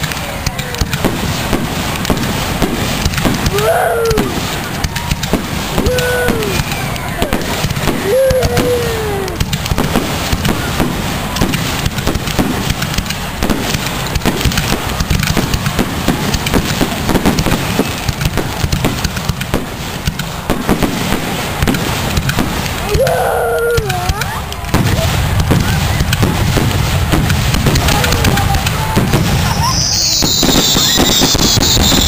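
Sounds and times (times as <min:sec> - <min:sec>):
firework shells bursting: 0:00.0 - 0:32.0.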